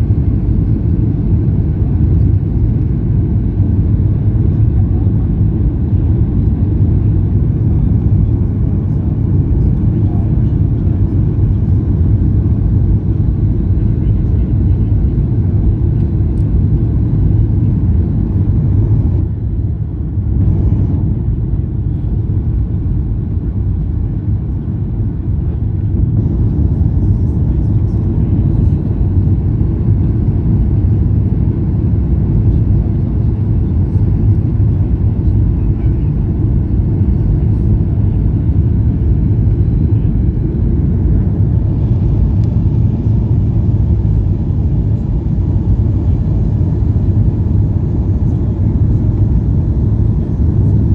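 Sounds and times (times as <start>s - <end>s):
airliner cabin rumble: 0.0s - 50.9s.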